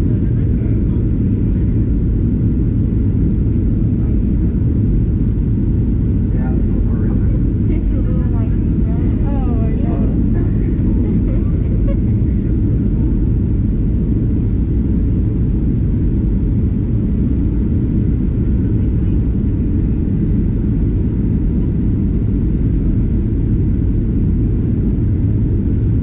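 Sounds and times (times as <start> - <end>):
airliner engines in cabin: 0.0 - 26.0.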